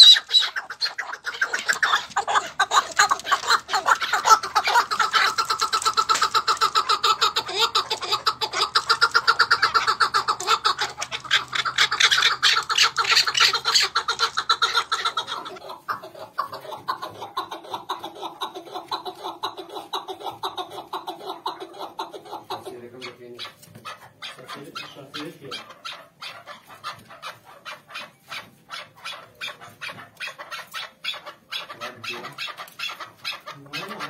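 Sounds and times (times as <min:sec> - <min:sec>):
partridges calling: 0:00.0 - 0:16.6, 0:22.2 - 0:34.0.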